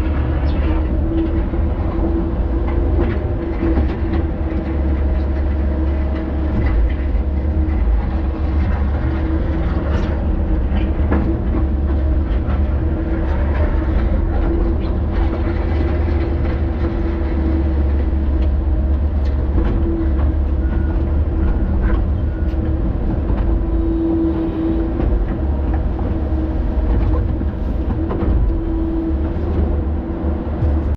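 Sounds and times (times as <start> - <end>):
machine clanks and knocks: 0.0 - 24.0, 24.8 - 30.9
excavator diesel engine running: 0.0 - 30.9.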